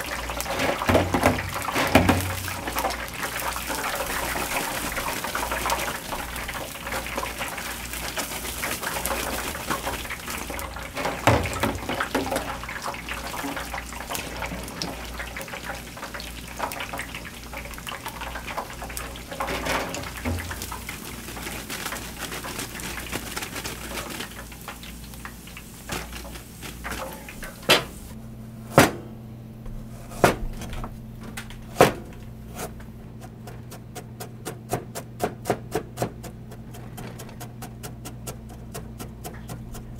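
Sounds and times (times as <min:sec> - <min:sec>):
deep-frying crackling sizzle: 0:00.0 - 0:28.2, 0:29.8 - 0:39.9.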